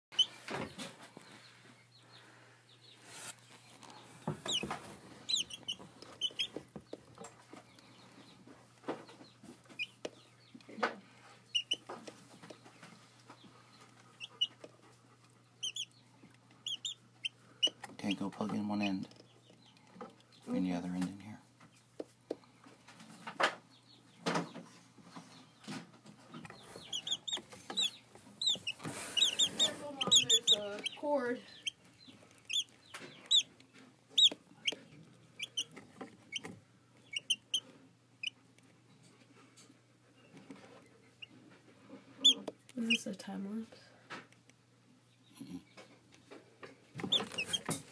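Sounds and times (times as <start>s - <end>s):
chicks peeping and clucking: 0.1s - 47.9s.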